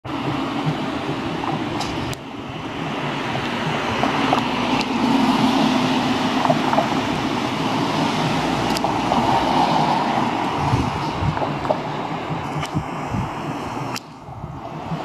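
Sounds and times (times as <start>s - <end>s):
road traffic rumbling: 0.0s - 15.0s
wind on microphone: 0.0s - 15.0s.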